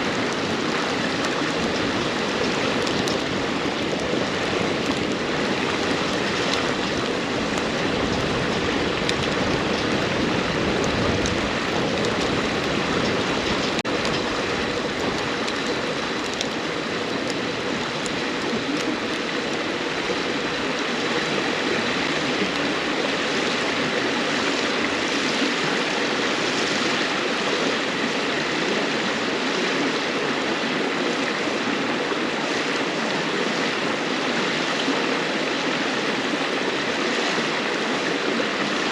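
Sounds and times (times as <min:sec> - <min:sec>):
campfire crackling: 0:00.0 - 0:34.9
river water rushing and babbling: 0:00.0 - 0:38.9.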